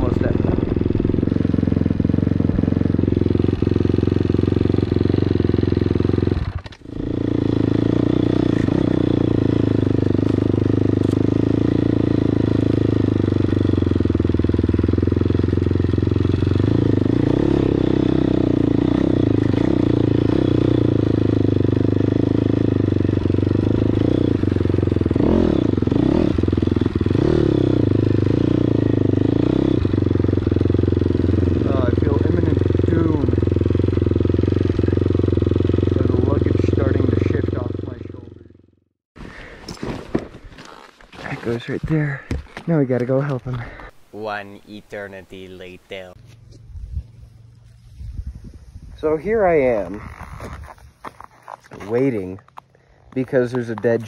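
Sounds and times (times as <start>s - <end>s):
motorcycle engine running: 0.0s - 39.0s, 45.3s - 54.0s.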